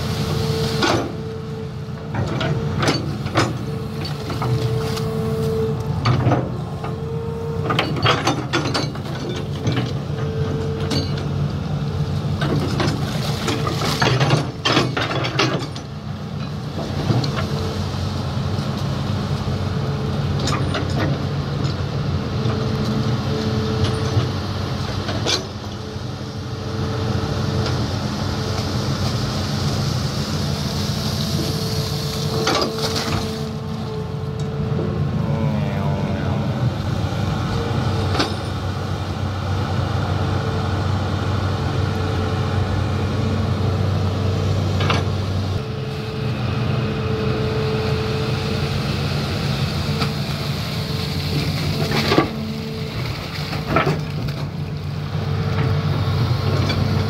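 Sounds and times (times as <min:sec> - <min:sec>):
engine whine: 0:00.0 - 0:57.0
excavator diesel engine under load: 0:00.0 - 0:57.0.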